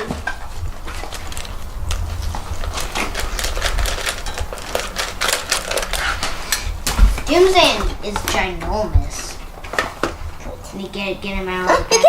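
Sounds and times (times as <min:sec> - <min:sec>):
plastic packaging crackling: 0:00.0 - 0:10.4.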